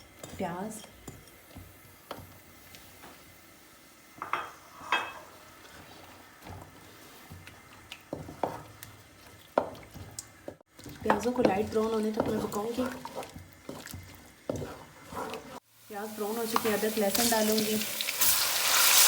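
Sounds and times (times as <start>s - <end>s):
onions frying in oil: 0.0s - 19.0s.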